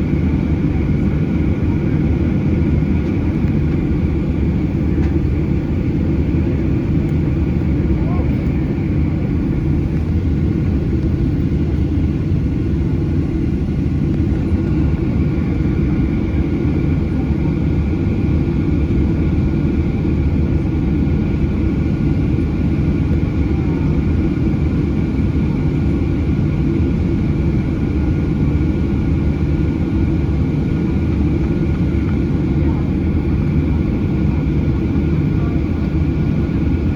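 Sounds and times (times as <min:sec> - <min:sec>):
jet engine roar in cabin: 0:00.0 - 0:36.9.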